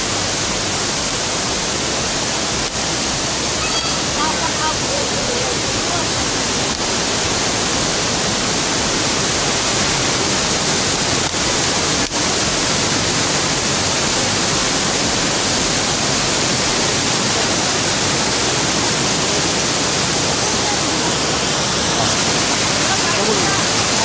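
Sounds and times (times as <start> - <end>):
waterfall roar: 0.0 - 24.0.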